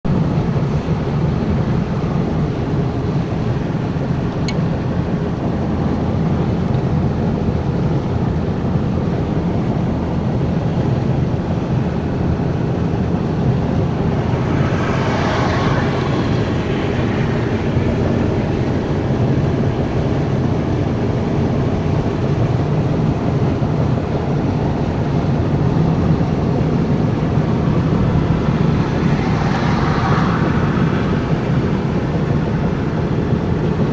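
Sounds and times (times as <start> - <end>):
vehicle road and engine noise: 0.0 - 33.9.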